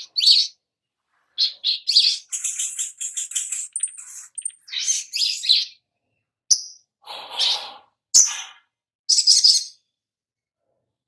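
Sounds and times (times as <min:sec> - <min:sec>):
bird chirping and twittering: 0:00.0 - 0:09.9.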